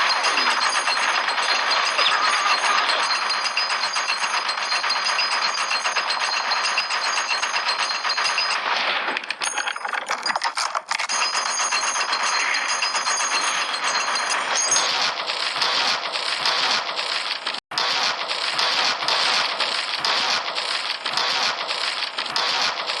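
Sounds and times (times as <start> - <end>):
rapid gunfire rattle: 0.0 - 23.0.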